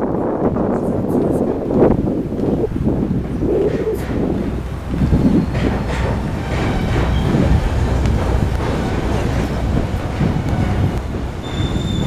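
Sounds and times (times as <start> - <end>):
train rumbling across steel bridge: 0.0 - 12.0.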